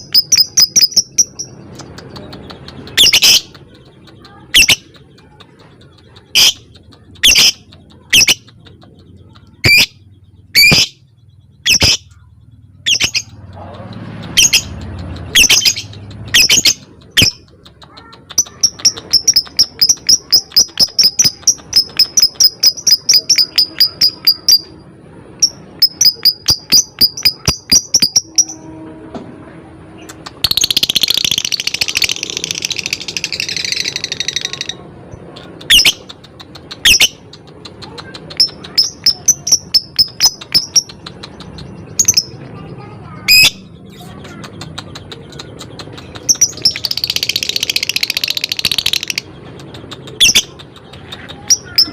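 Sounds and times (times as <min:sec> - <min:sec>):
bird chirping rapidly: 0:00.0 - 0:28.6, 0:30.0 - 0:51.9
bird raspy chatter: 0:00.0 - 0:51.9.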